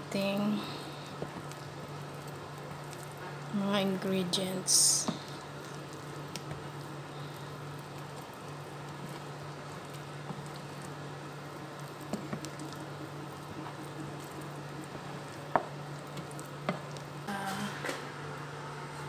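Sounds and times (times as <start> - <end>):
steady low hum: 0.0 - 19.0
spatula stirring thick batter: 0.8 - 17.3.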